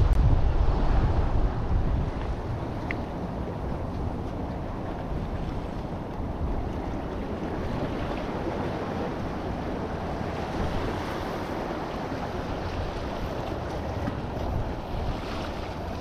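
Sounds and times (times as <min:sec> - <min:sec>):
ocean waves washing against rocks: 0:00.0 - 0:16.0
wind buffeting microphone: 0:00.0 - 0:16.0.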